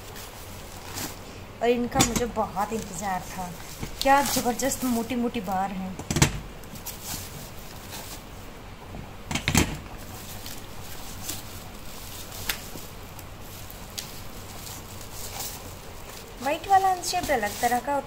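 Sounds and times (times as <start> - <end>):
plastic wrapping crinkling: 0.0 - 6.0, 6.6 - 8.5, 9.4 - 18.0.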